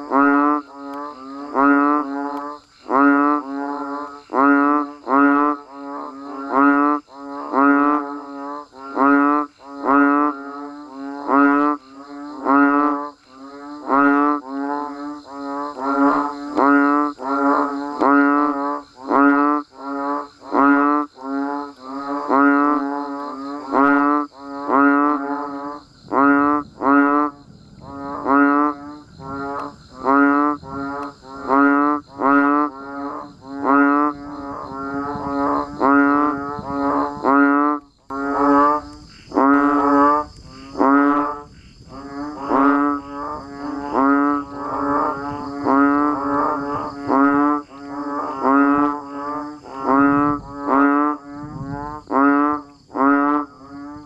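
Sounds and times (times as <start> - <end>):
frogs croaking: 0.0 - 54.0.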